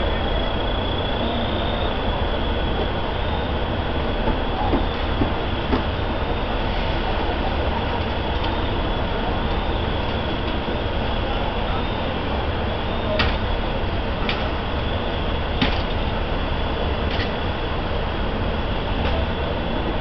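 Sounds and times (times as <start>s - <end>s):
fire engine pump rumbling: 0.0s - 20.0s.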